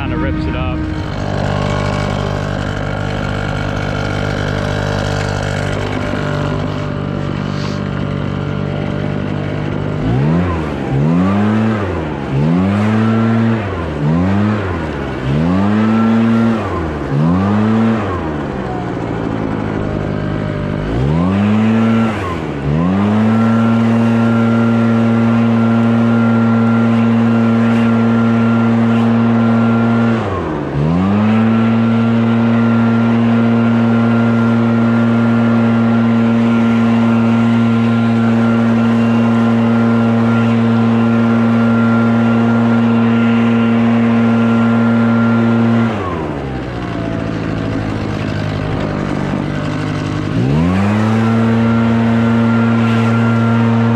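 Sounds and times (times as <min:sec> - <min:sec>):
leaf blower engine revving: 0:00.0 - 0:53.9.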